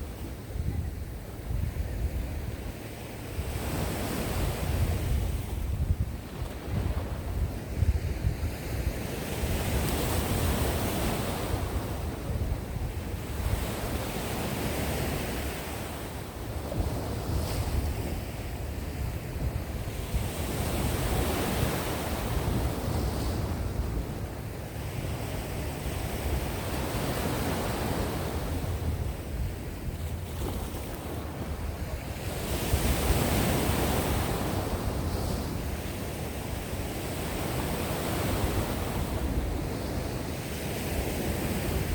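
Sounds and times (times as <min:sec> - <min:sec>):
sea waves breaking on shore: 0:00.0 - 0:41.9
wind rumble on microphone: 0:00.0 - 0:41.9.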